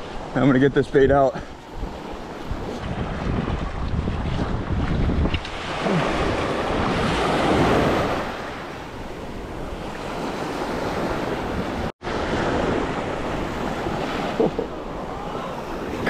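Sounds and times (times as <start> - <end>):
ocean surf breaking: 0.0 - 16.0
wind buffeting microphone: 1.0 - 16.0.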